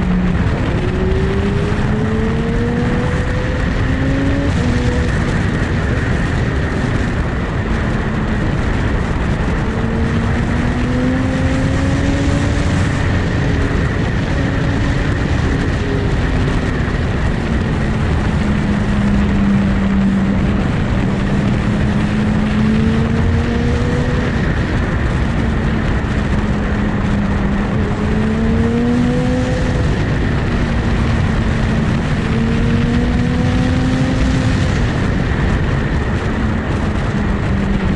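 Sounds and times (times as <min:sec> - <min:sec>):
motorcycle engine running: 0:00.0 - 0:37.9
rush of noise: 0:00.0 - 0:37.9.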